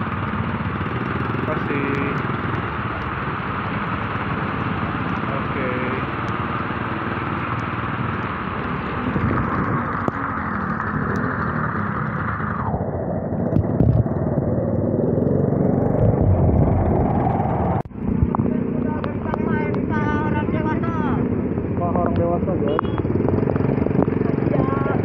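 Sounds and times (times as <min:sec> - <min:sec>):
motorbike riding on wet road: 0:00.0 - 0:25.0.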